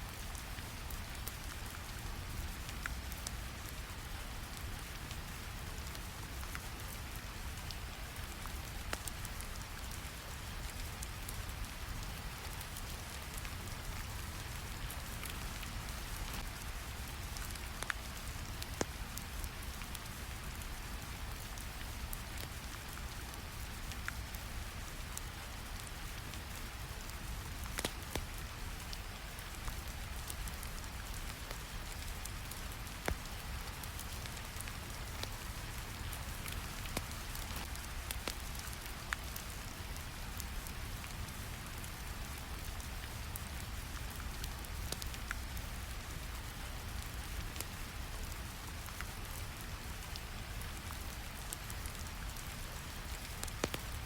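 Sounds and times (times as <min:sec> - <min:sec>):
steady rain on a surface: 0:00.0 - 0:54.0
wood fire crackling: 0:00.1 - 0:49.4, 0:50.0 - 0:54.0.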